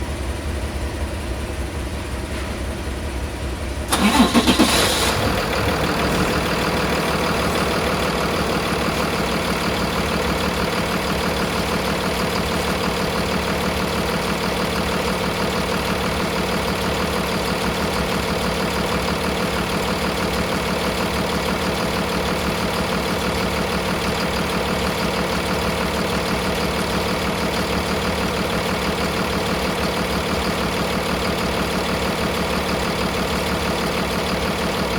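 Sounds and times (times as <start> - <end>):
diesel engine starting and idling: 0.0 - 34.9.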